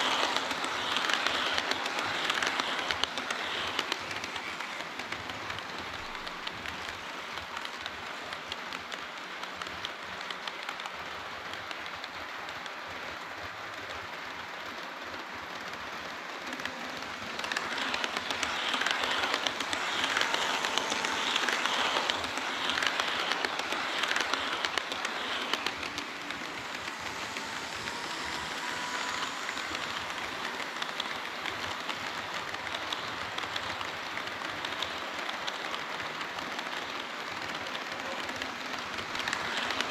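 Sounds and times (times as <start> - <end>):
model train wheels rattling on rail: 0.0 - 39.9.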